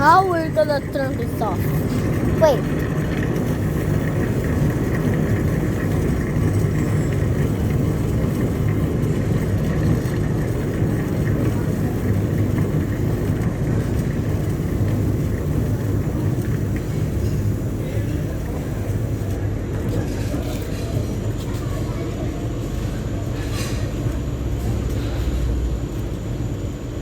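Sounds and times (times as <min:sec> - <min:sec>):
exhaust fan running: 0:00.0 - 0:27.0.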